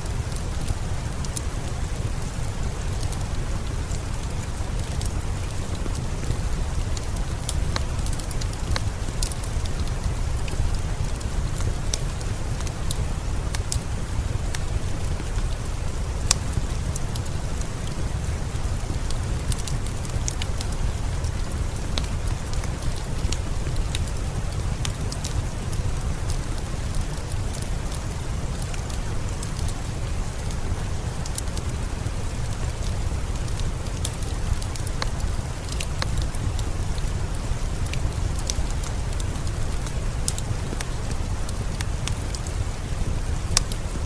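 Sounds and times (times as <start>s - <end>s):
steady rain: 0.0s - 44.0s
wood fire crackling: 0.0s - 44.0s.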